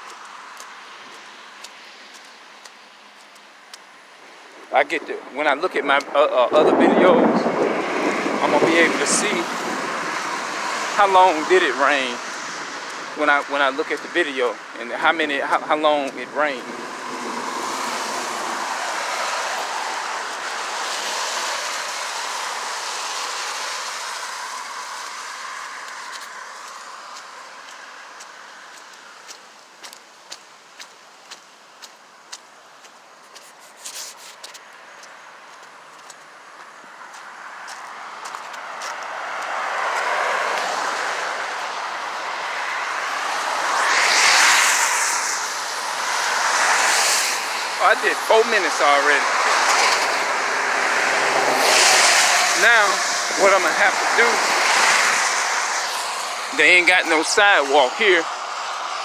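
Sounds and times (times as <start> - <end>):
tyres hissing on wet road: 0.0 - 6.0, 6.7 - 59.0.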